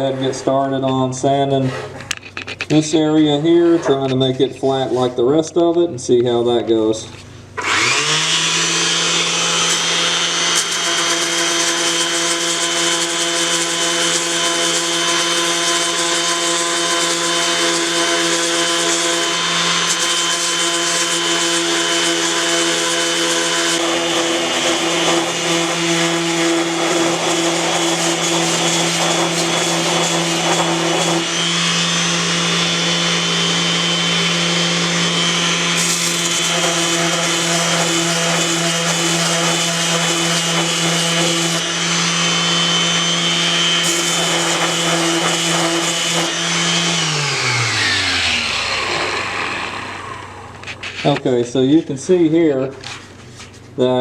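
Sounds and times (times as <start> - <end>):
electric sander rasping on plastic: 7.6 - 51.2.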